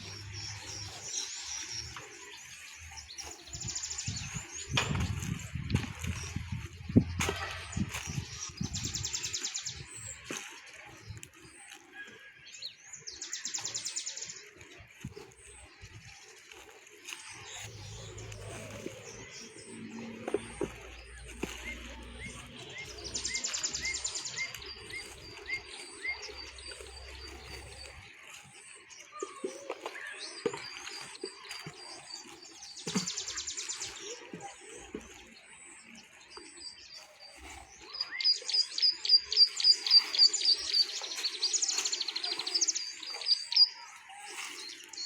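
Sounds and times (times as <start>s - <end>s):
birds chirping and singing: 0.0s - 45.0s.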